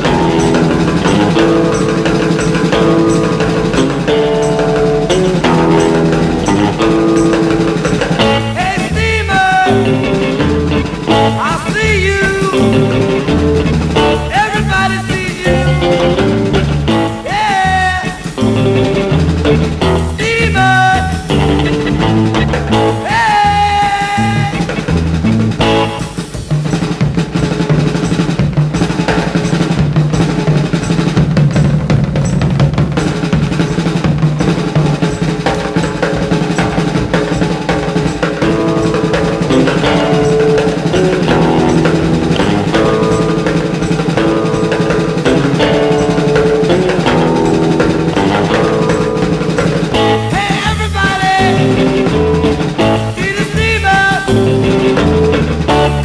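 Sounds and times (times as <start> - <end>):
rock music with drum kit: 0.0 - 56.0.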